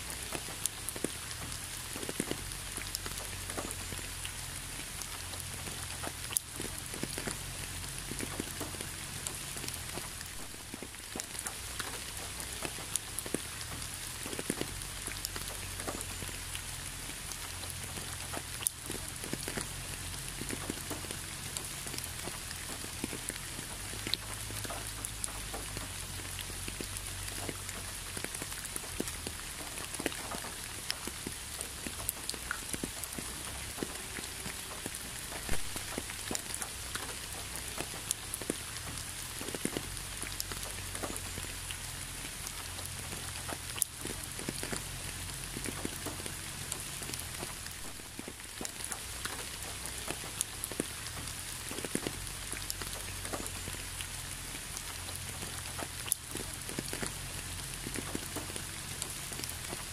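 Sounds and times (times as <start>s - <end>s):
raindrops ticking close by: 0.0s - 59.9s
steady rain falling: 0.0s - 59.9s.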